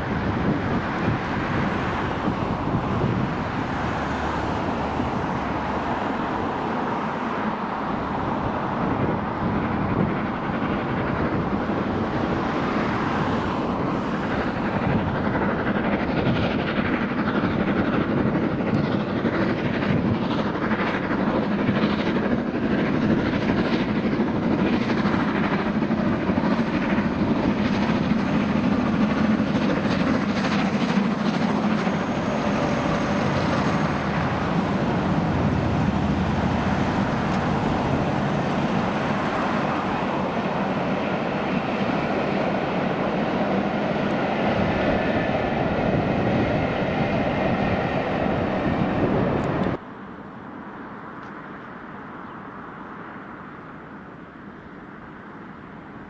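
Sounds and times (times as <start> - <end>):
steam locomotive exhaust beats: 0.0 - 49.8
train rumble: 0.0 - 50.0.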